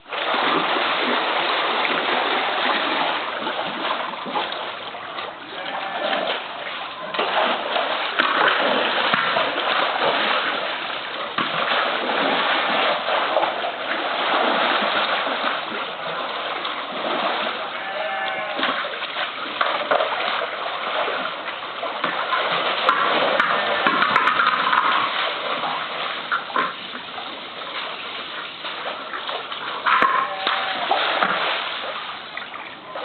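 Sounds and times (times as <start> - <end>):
water splashing and churning: 0.0 - 33.0.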